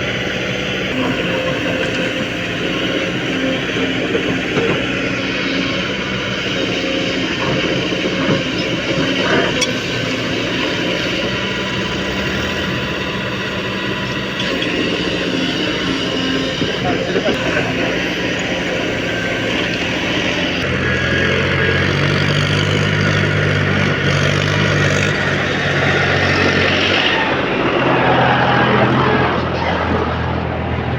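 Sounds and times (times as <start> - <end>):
diesel engines running: 0.0 - 30.9.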